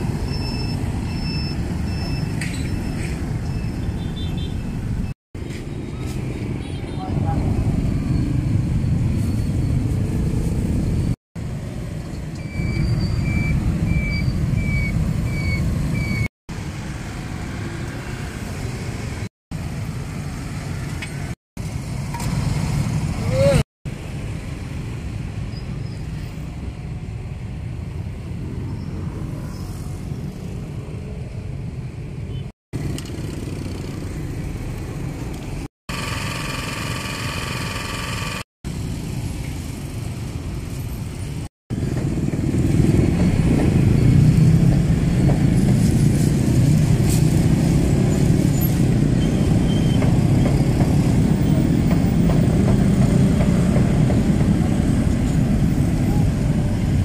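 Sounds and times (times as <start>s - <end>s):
street traffic rumble with motorbikes: 0.0s - 57.0s.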